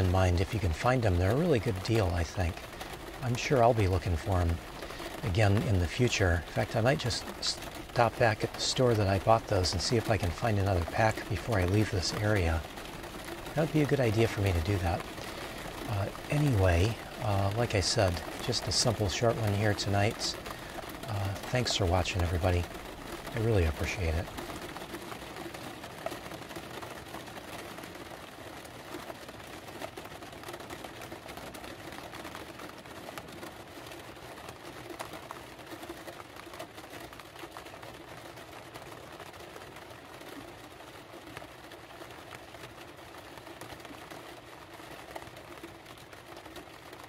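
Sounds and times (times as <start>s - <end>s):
rain pattering on a vehicle roof: 0.0s - 47.0s.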